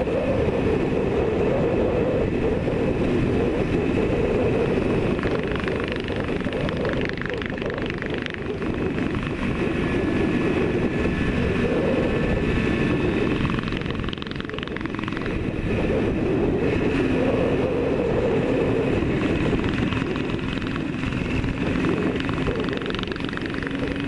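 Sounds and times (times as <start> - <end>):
motorcycle engine running: 0.0 - 24.0
wind rushing: 0.0 - 24.0.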